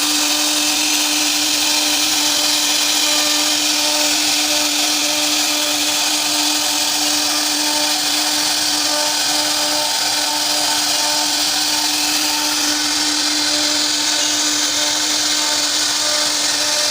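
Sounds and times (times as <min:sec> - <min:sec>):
router spindle carving wood: 0:00.0 - 0:16.9.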